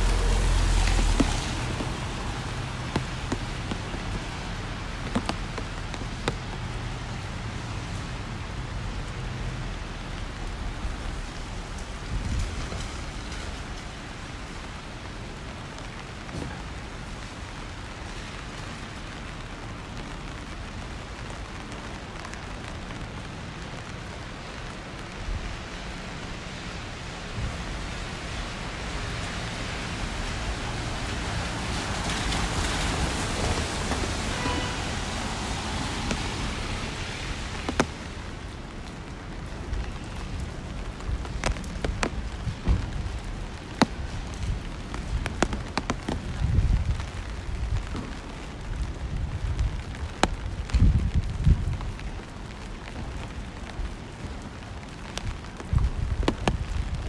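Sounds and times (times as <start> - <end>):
car tyres hissing on wet road: 0.0 - 57.0
rain on a wet street: 0.0 - 57.0.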